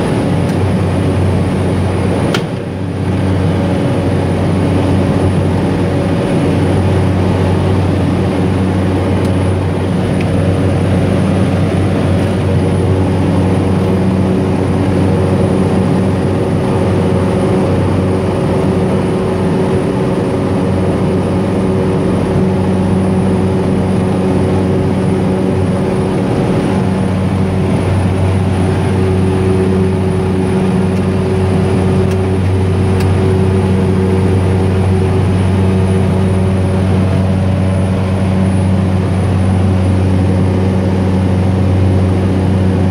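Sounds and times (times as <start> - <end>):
propeller aircraft engine droning: 0.0 - 42.9.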